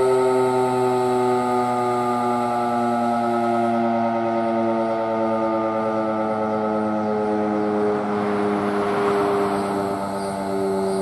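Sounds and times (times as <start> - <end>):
fire siren wailing: 0.0 - 11.0.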